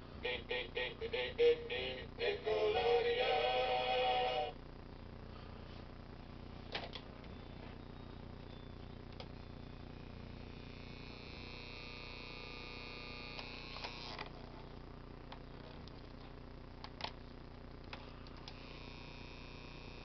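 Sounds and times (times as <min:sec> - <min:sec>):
faint high whine: 0:00.0 - 0:20.0
low hum: 0:00.0 - 0:20.0.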